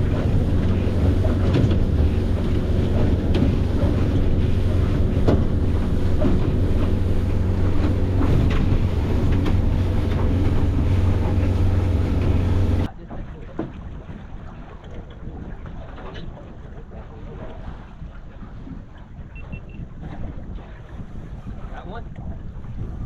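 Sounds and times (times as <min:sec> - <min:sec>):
boat engine droning: 0:00.0 - 0:23.0
wind buffeting microphone: 0:00.0 - 0:23.0.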